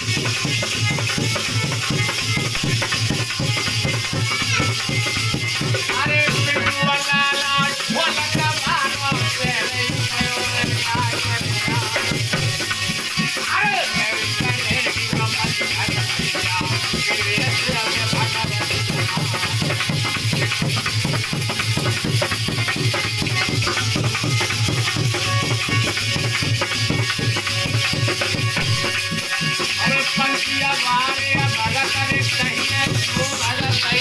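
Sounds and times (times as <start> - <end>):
drums playing fast rhythm: 0.0 - 34.0
shaker rattling: 0.0 - 34.0.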